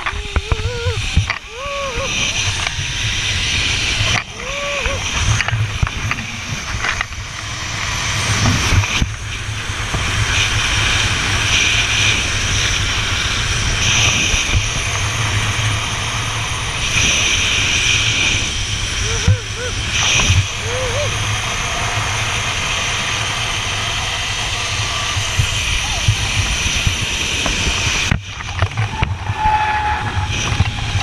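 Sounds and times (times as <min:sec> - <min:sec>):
wind over microphone: 0:00.0 - 0:31.0
zipline trolley whirring on cable: 0:00.0 - 0:31.0.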